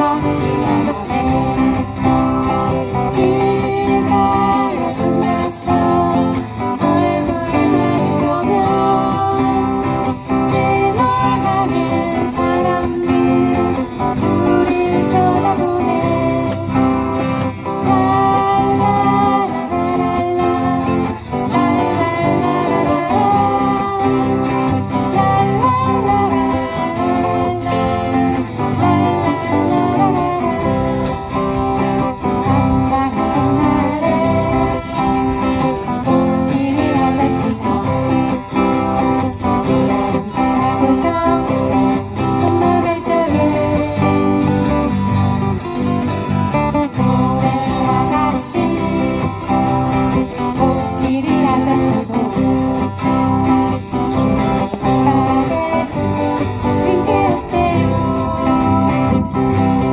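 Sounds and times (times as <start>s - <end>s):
acoustic guitars strumming: 0.0s - 59.9s
people singing folk songs: 0.0s - 59.9s.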